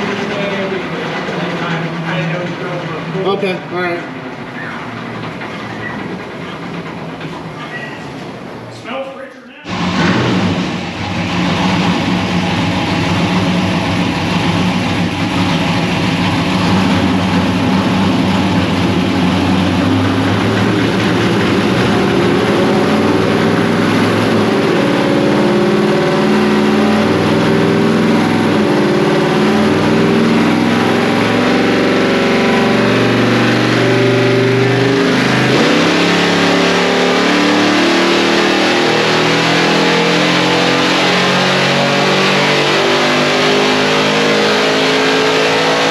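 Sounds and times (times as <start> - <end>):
truck engine revving on dyno: 0.0 - 7.0, 9.7 - 45.9.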